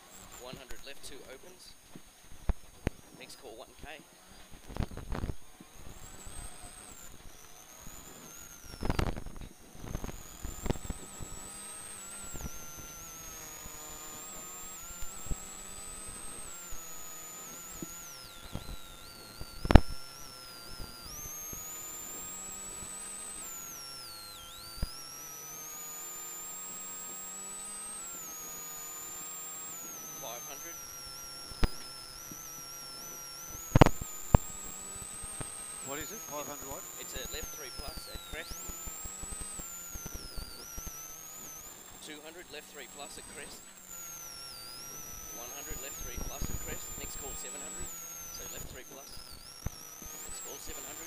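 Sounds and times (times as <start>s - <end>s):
electrical crackles: 0.0s - 51.0s
electrical hum: 0.0s - 51.0s
electrical whine: 0.0s - 51.0s.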